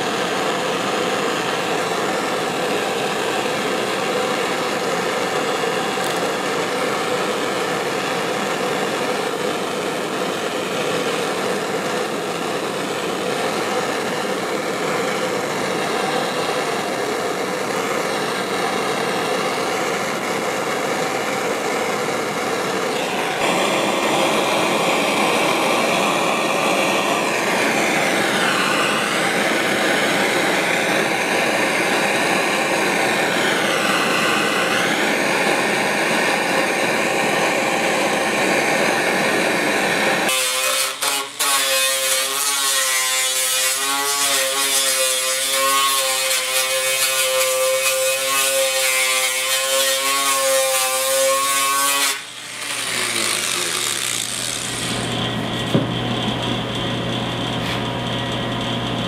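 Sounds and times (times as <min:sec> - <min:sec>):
gas torch flame hissing: 0:00.0 - 0:42.3, 0:52.1 - 0:58.0.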